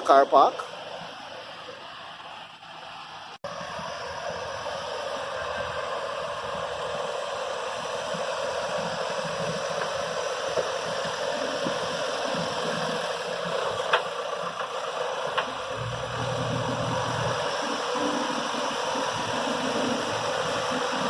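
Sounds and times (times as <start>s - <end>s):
earth-moving machinery running: 3.5s - 21.0s.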